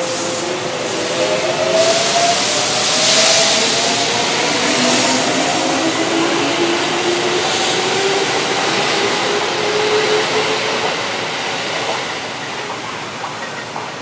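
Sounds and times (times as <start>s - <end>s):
rising train whine: 0.0s - 14.0s
train rail rumble: 0.0s - 14.0s.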